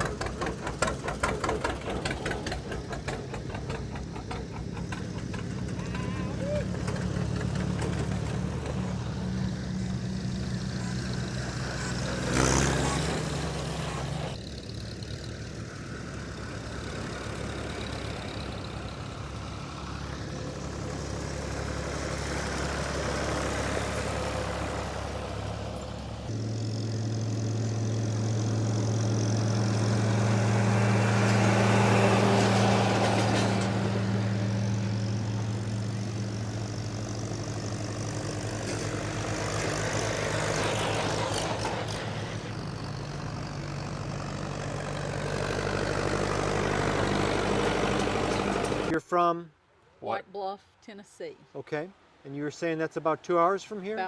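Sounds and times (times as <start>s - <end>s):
tractor engines running: 0.0s - 49.2s.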